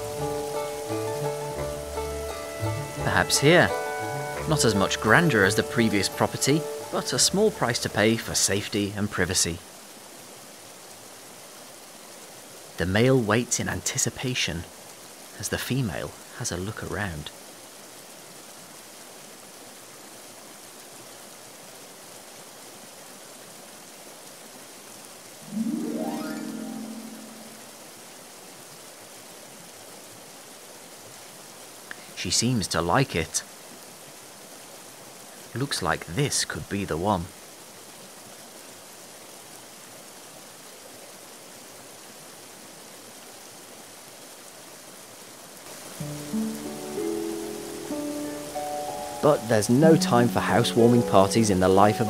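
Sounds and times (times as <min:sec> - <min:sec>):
river rushing over rocks: 0:00.0 - 0:52.0.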